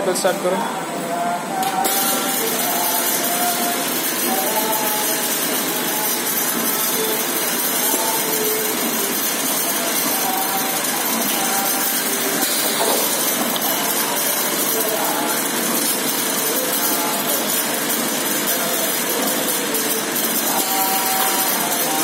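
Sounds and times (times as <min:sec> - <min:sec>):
bottle filling machine running: 0:00.0 - 0:22.0.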